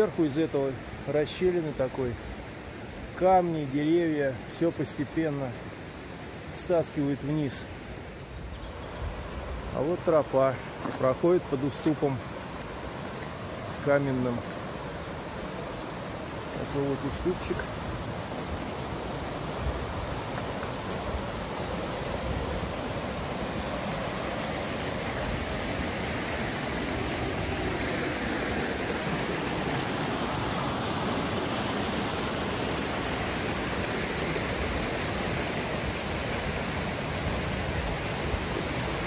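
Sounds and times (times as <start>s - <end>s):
river rushing over boulders: 0.0s - 39.0s
small waterfall: 0.0s - 39.0s.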